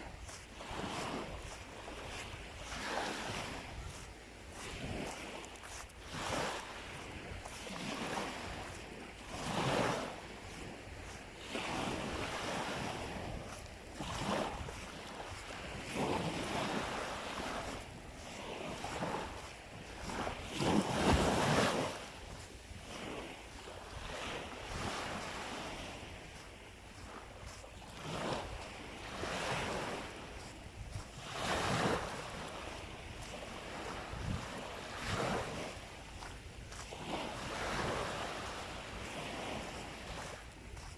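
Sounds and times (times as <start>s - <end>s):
waves breaking on shore: 0.0s - 40.9s
wind on microphone: 0.0s - 40.9s.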